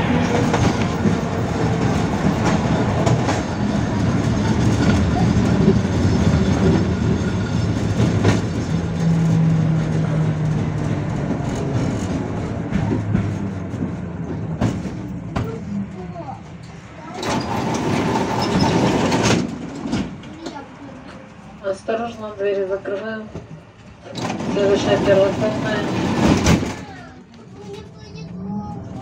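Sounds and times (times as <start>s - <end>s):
tram rolling hum: 0.0s - 29.0s
wheels clicking over rail joints: 0.0s - 29.0s.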